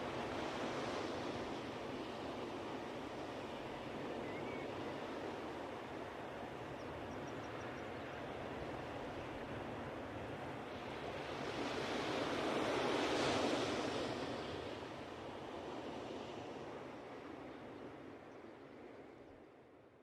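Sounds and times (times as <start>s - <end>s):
ocean waves washing onto beach: 0.0s - 18.2s.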